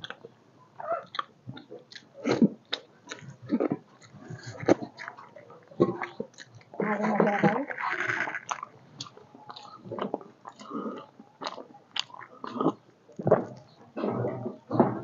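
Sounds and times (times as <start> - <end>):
wet chewing and lip-smacking: 0.0 - 0.3, 1.0 - 6.8, 7.4 - 13.8.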